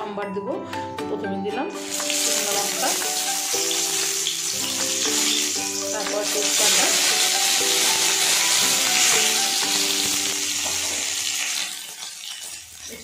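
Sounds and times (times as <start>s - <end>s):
spices sizzling in hot oil: 1.7s - 13.0s.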